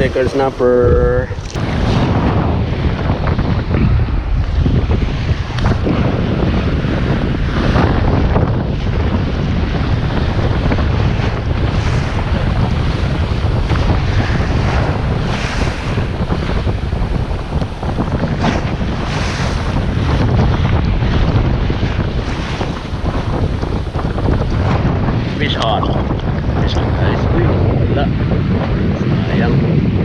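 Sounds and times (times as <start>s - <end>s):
surf washing on shore: 0.0s - 30.0s
wind buffeting microphone: 0.0s - 30.0s.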